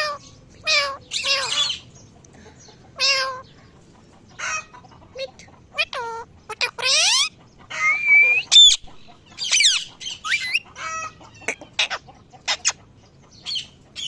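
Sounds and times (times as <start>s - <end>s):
parrot squawking and chirping: 0.0s - 2.0s, 2.9s - 3.5s, 4.2s - 14.0s.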